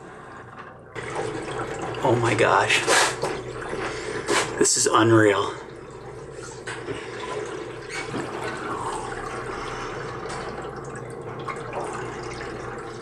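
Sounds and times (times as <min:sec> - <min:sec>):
low even hum: 0:00.0 - 0:13.0
underwater sloshing and gurgling: 0:00.0 - 0:13.0.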